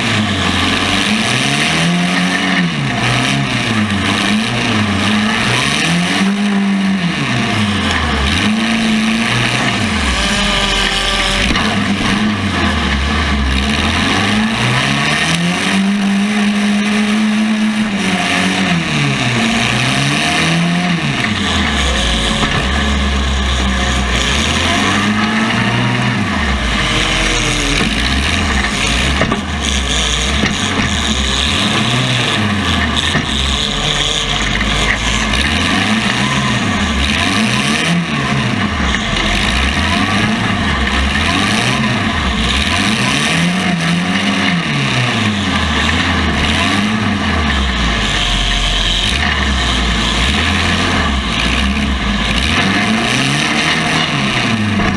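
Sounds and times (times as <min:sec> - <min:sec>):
car engines revving: 0:00.0 - 0:54.9
loud steady mechanical din: 0:00.0 - 0:54.9.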